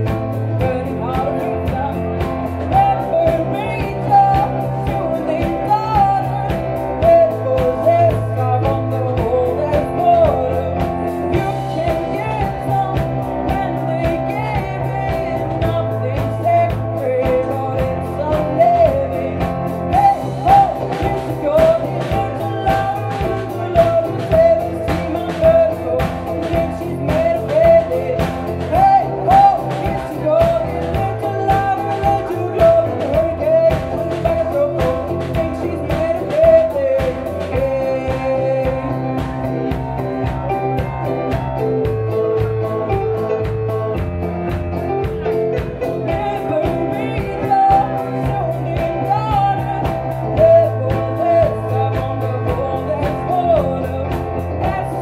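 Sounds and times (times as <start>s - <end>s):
woman singing into microphone: 0.0s - 42.5s, 45.1s - 55.0s
drums beat: 0.0s - 55.0s
keyboard: 0.0s - 55.0s.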